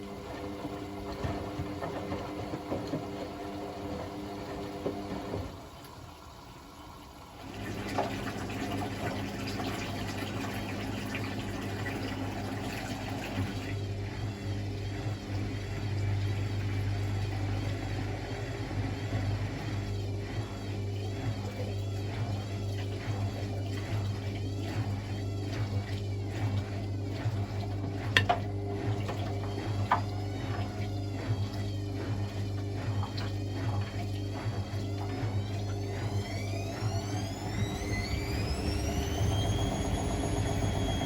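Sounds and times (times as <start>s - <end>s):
washing machine low hum: 0.0s - 41.0s
water sloshing in washing machine: 0.0s - 41.0s.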